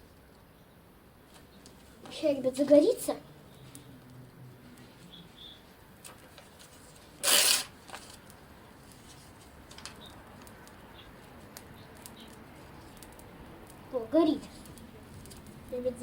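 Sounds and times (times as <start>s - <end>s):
small fire crackling: 0.0s - 16.0s.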